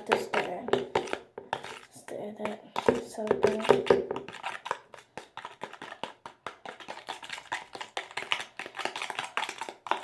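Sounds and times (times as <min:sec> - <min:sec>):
spoon stirring slime in a bowl: 0:00.0 - 0:10.0.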